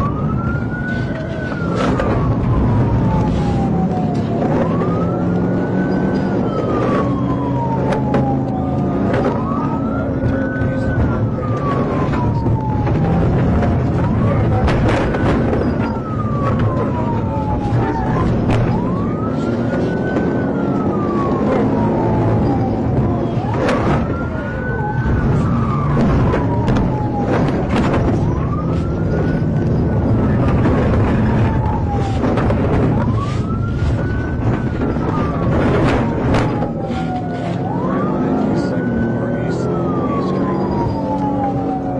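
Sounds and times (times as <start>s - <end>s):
emergency siren wailing: 0.0s - 41.9s.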